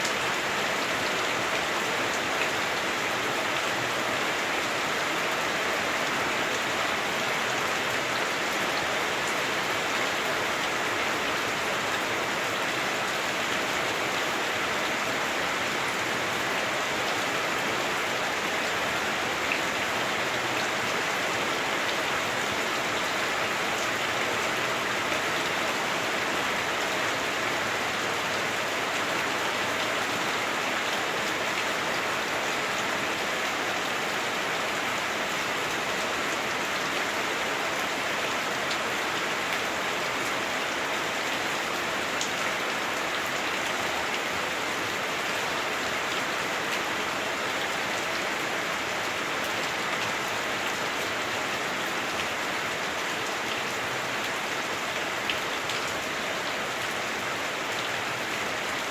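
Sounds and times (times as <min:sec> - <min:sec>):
heavy rain on roof: 0:00.0 - 0:58.9.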